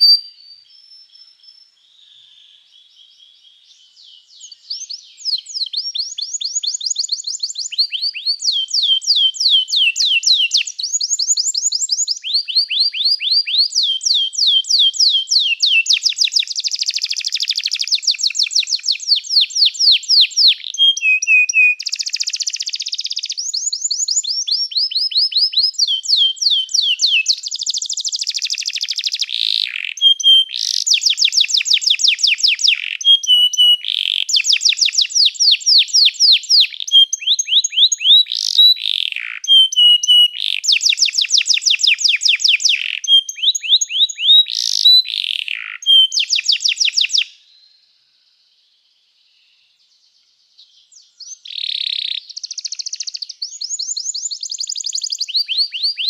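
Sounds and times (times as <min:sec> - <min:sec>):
canary singing trills: 0:00.0 - 0:01.7, 0:03.7 - 0:47.4, 0:50.8 - 0:56.0.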